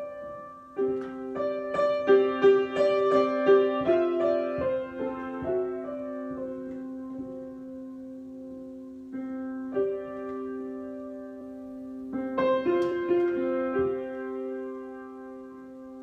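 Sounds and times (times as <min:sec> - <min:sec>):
solo piano: 0:00.0 - 0:16.0.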